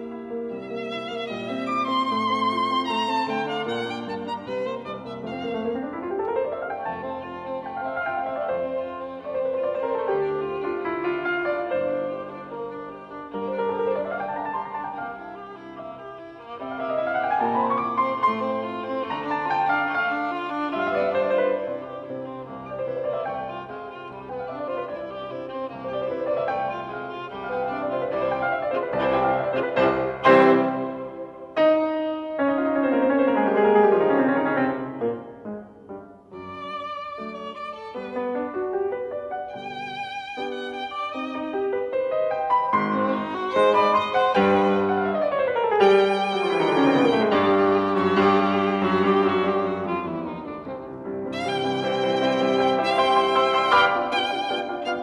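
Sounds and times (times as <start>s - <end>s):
bowed strings: 0.0s - 31.9s, 36.4s - 55.0s
piano: 0.0s - 55.0s.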